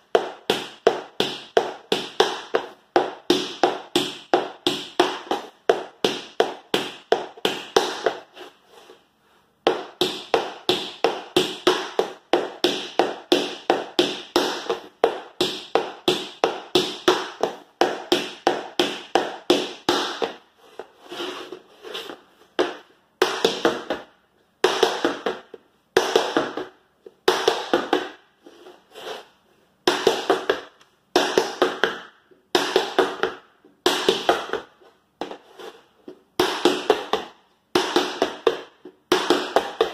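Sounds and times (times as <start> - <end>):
tap shoes on wooden floor: 0.0 - 8.5, 9.6 - 28.2, 29.9 - 39.9.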